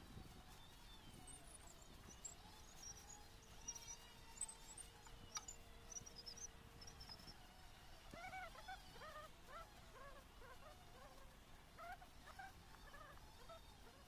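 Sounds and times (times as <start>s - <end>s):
faint steady hum: 0.0s - 14.0s
small birds chirping: 0.0s - 14.0s.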